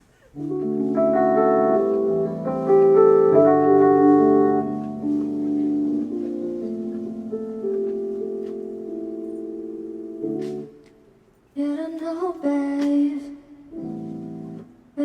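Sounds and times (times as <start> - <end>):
keyboard playing held chords: 0.4 - 11.2, 13.7 - 15.0.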